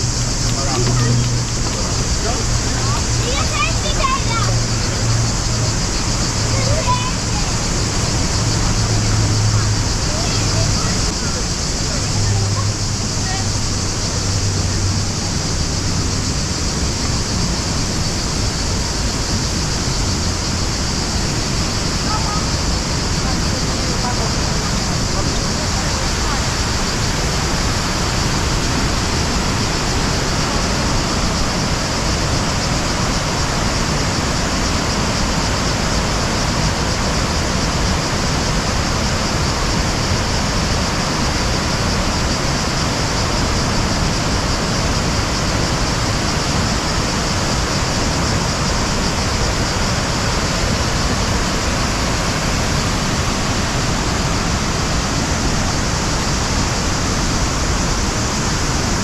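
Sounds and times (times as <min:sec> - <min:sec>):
rush of falling water: 0:00.0 - 0:59.0.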